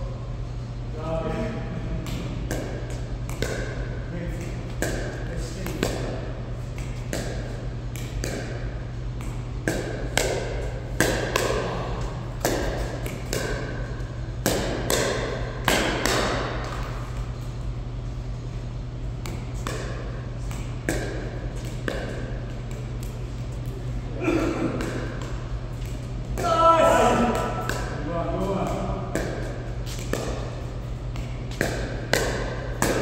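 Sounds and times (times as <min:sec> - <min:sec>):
paddles hitting pickleball: 0:01.9 - 0:17.5, 0:19.2 - 0:33.0.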